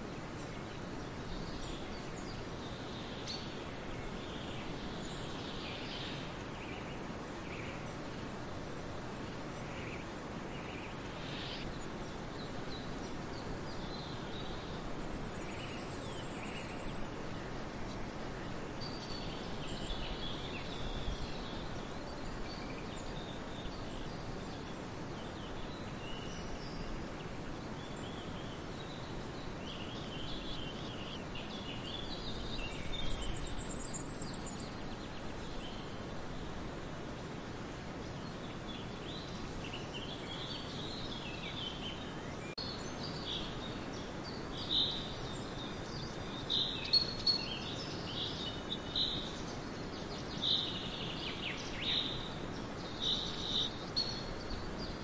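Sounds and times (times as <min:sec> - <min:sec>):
outdoor ambient hiss: 0:00.0 - 0:55.0.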